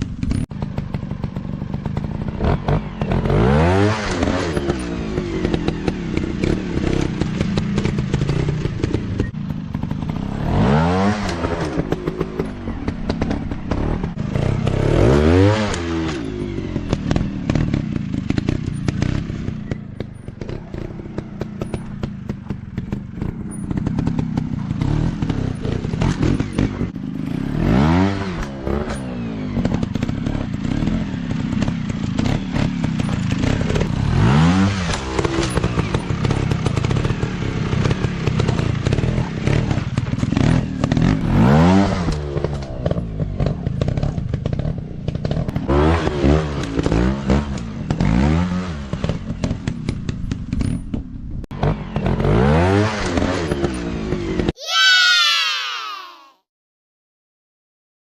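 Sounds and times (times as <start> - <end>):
dirt bike engines revving: 0.1 - 49.8.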